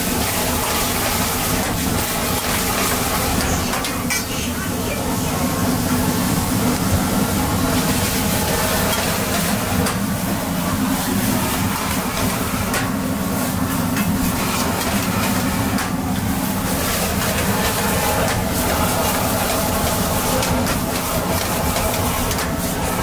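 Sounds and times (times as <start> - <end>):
gas burner roaring: 0.0 - 23.0
noodles sizzling in wok: 0.0 - 23.0.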